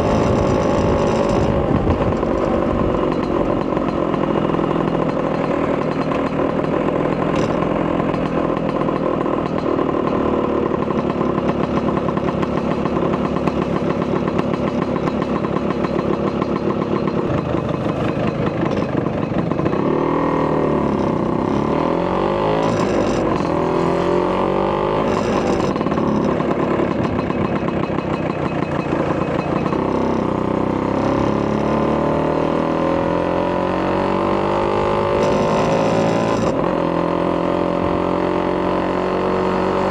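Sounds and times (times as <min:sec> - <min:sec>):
two-stroke scooter engine: 0:00.0 - 0:39.9.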